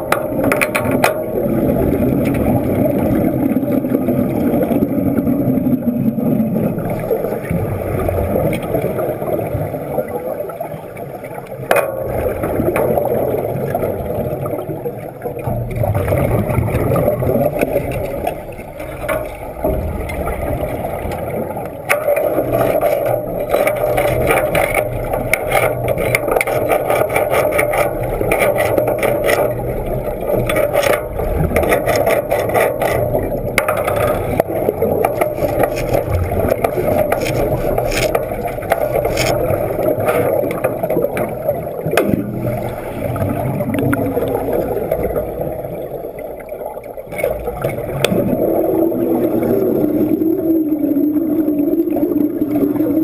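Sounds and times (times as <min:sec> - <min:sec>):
underwater bubbling: 0:00.0 - 0:53.0
underwater welding crackle: 0:00.0 - 0:53.0.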